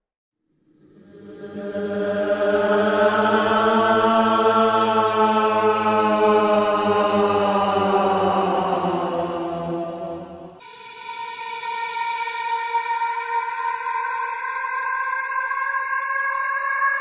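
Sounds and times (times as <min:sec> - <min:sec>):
low chant-like drone: 0:00.6 - 0:17.0.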